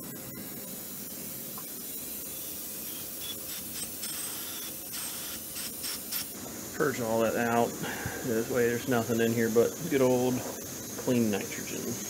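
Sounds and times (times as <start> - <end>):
gas hissing from pipes: 0.0 - 12.0.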